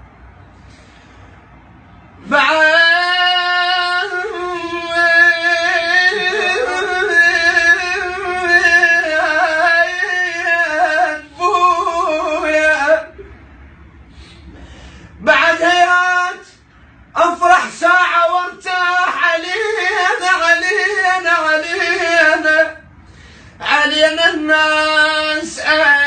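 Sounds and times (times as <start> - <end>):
man singing wordless lament: 2.2 - 13.3, 15.1 - 22.9, 23.5 - 26.0.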